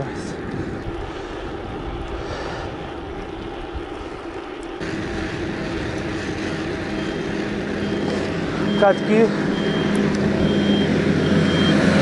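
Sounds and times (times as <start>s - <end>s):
bike tyres rolling on asphalt: 0.0s - 11.7s
steady low hum: 0.0s - 12.0s
wind buffeting microphone: 0.0s - 12.0s.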